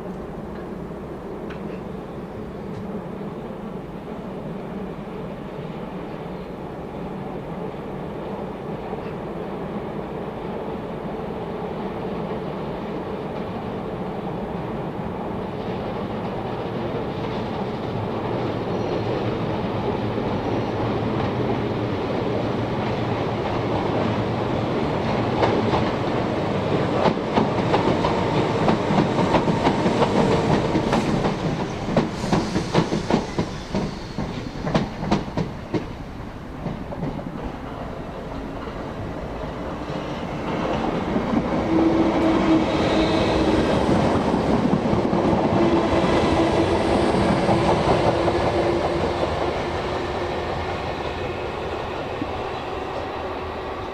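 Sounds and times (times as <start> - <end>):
train passing: 0.0 - 53.9.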